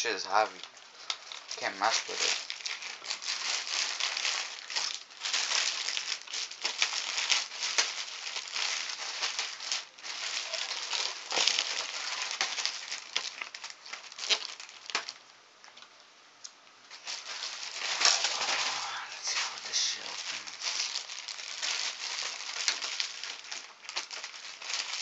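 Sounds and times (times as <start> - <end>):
packaging crinkling and rustling: 0.0 - 15.9, 16.9 - 25.0.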